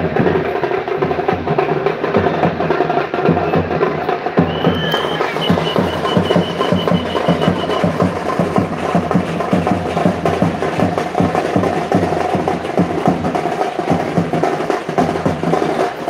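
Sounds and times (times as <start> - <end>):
fast drum beat: 0.0 - 16.0.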